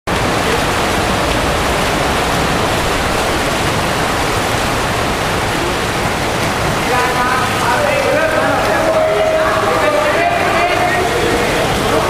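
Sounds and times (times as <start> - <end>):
pool water splashing and churning: 0.1 - 12.0.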